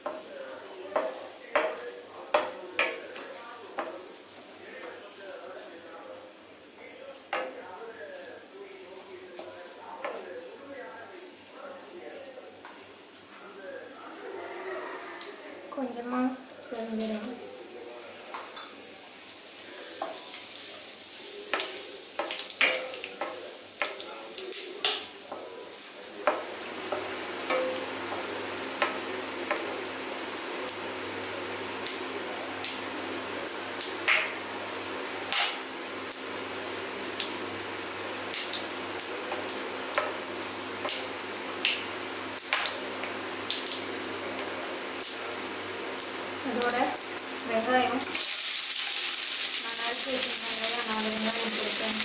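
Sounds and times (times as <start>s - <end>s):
spices sizzling in hot oil: 0.0s - 7.6s, 9.0s - 10.7s, 16.5s - 52.0s.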